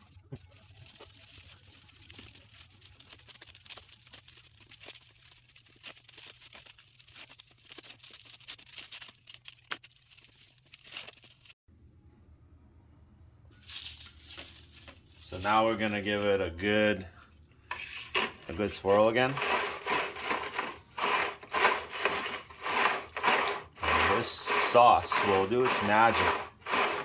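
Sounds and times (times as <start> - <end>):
scrubbing motorcycle chain: 0.3 - 11.6, 13.6 - 27.0.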